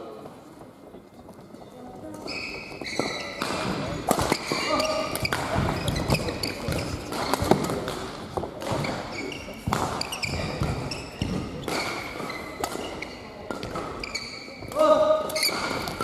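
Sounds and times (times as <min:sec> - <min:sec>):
sneakers squeaking on court: 0:01.2 - 0:16.0
racket hitting shuttlecock: 0:02.9 - 0:16.0.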